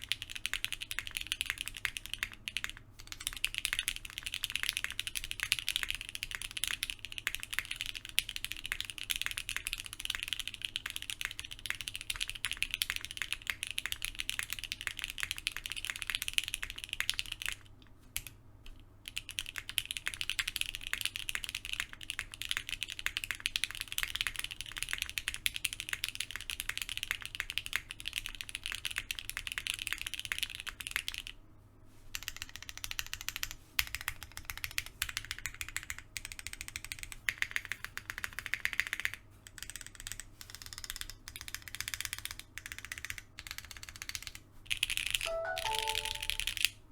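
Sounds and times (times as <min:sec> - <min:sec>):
mechanical keyboard typing: 0:00.0 - 0:18.3, 0:19.1 - 0:31.3, 0:32.2 - 0:46.7.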